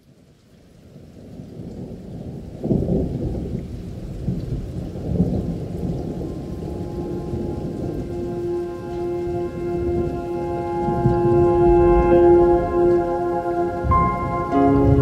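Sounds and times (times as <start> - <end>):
steady rain: 0.0 - 15.0
rolling thunder: 0.9 - 15.0.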